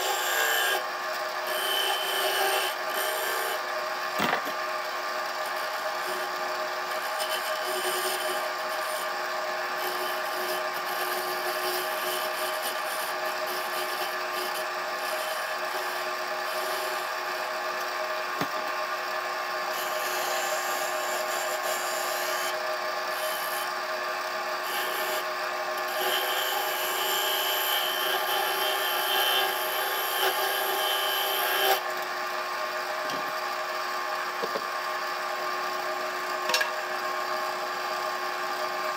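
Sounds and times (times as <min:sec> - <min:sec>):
wood lathe motor whine: 0:00.0 - 0:38.9.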